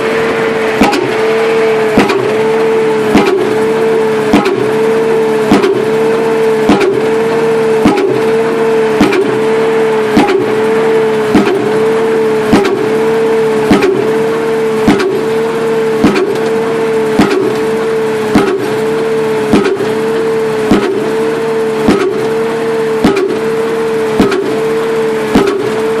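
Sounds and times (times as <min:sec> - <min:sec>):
rig engine drone: 0:00.0 - 0:26.0
pile driver strikes: 0:00.8 - 0:08.4, 0:09.0 - 0:11.9, 0:12.5 - 0:15.4, 0:16.0 - 0:25.9.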